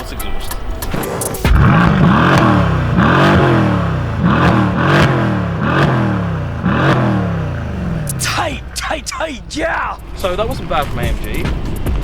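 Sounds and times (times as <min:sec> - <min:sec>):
car engine revving: 0:00.5 - 0:12.0.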